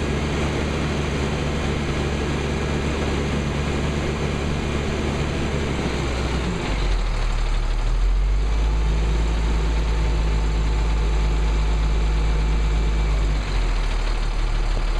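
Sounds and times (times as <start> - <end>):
diesel truck engine idling: 0.0 - 14.9.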